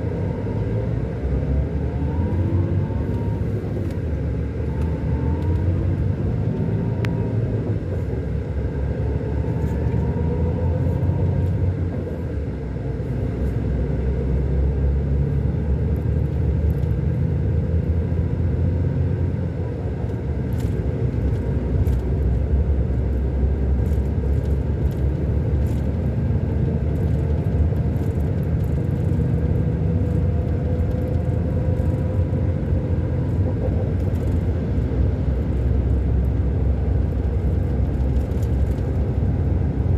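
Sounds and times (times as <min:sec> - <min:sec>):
diesel coach engine rumbling: 0:00.0 - 0:39.9.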